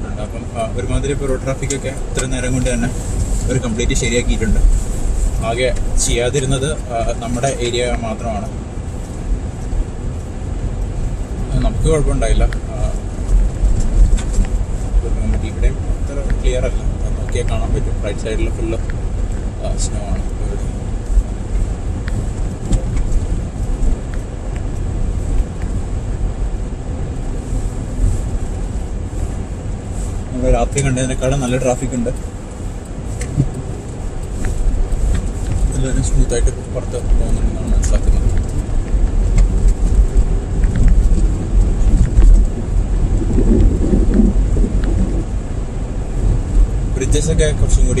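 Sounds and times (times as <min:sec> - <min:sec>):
car tyres and engine rumble: 0:00.0 - 0:48.0.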